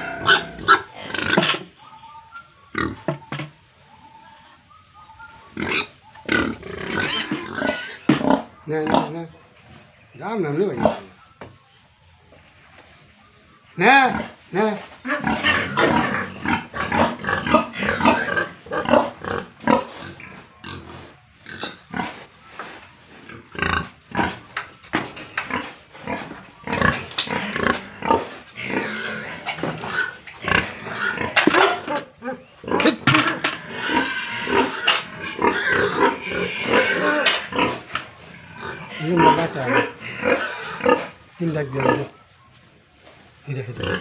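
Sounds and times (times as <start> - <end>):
pigs grunting and squealing: 0.0 - 9.4, 10.2 - 11.2, 13.8 - 42.4, 43.4 - 44.0.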